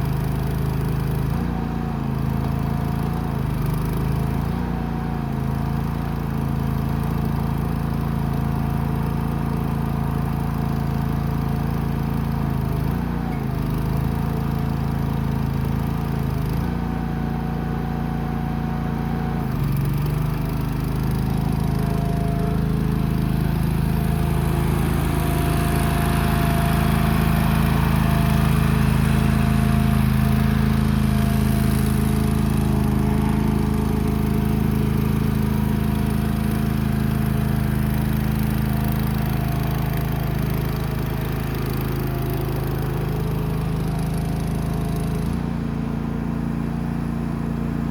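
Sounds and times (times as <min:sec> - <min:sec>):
small backhoe engine running: 0:00.0 - 0:47.9.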